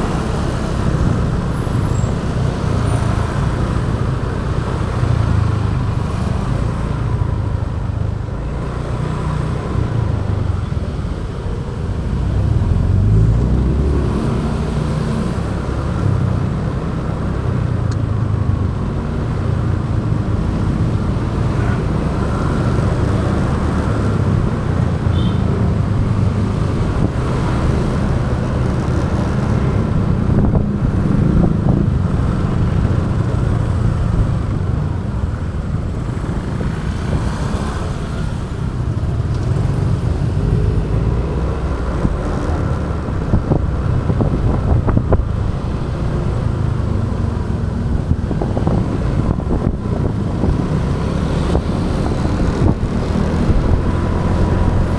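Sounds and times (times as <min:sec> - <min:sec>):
wind and road noise: 0:00.0 - 0:54.9.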